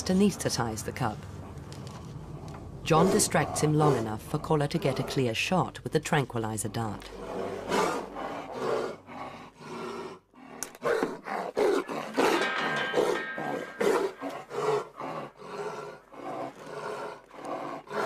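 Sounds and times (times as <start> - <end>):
tiger cub snarling and roaring: 1.3 - 5.7, 7.0 - 18.0.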